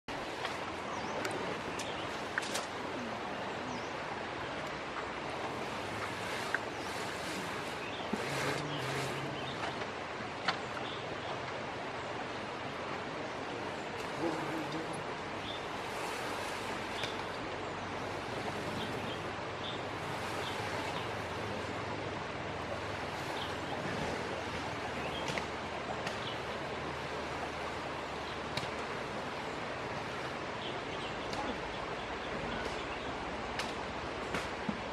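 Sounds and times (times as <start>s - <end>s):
outdoor background hiss: 0.1s - 34.9s.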